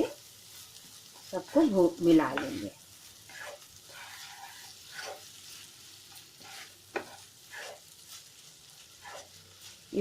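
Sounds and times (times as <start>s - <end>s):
faint sizzle: 0.0s - 10.0s
utensil scraping rice in a pan: 0.0s - 10.0s.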